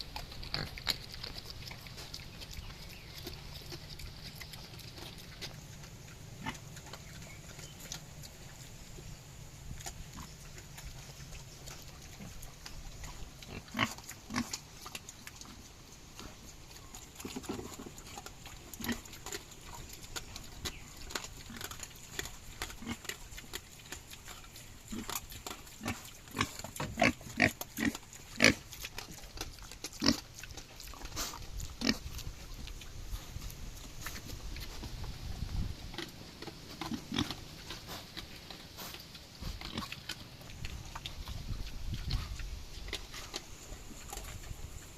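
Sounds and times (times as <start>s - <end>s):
pigs chewing crunchily: 0.0s - 44.9s.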